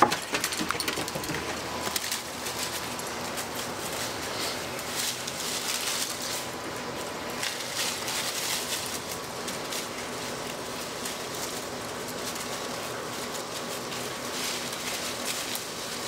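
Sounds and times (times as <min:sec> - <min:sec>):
dry leaves rustling under running dogs: 0:00.0 - 0:16.0.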